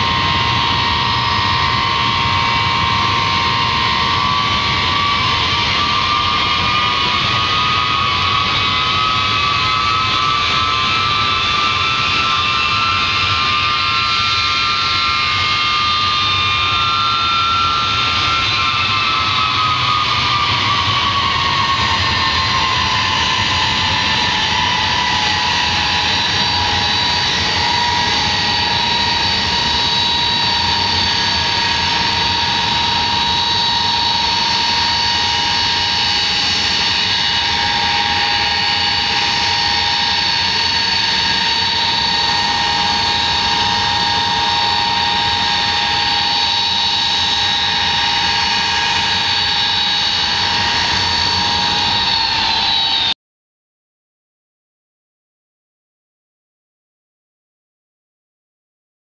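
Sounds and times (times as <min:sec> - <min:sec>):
high-pitched turbine whine: 0:00.0 - 0:53.2
jet engines idling roar: 0:00.0 - 0:53.2.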